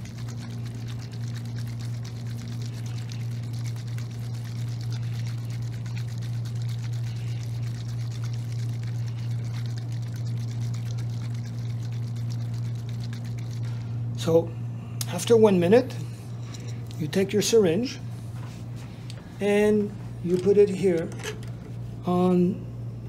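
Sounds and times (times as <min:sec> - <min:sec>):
oil sloshing in shaken syringe: 0:00.0 - 0:14.3, 0:15.2 - 0:22.1
steady low hum: 0:00.0 - 0:23.0.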